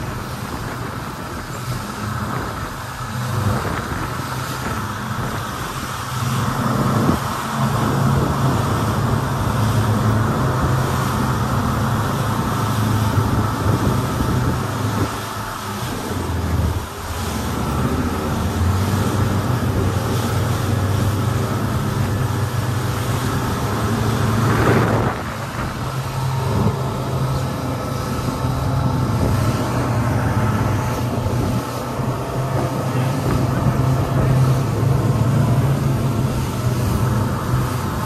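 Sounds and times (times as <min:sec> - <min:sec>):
outboard engines droning: 0:00.0 - 0:38.0
rush of spray and wind: 0:00.0 - 0:38.0.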